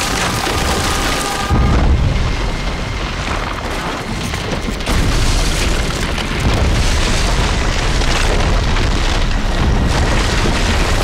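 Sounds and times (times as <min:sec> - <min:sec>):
deep rumble with booms: 0:00.0 - 0:11.0
earth and rock crumbling: 0:00.0 - 0:11.0.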